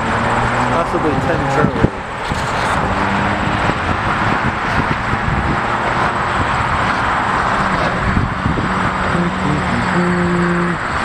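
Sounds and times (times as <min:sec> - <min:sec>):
vehicle rumble and hiss: 0:00.0 - 0:11.0.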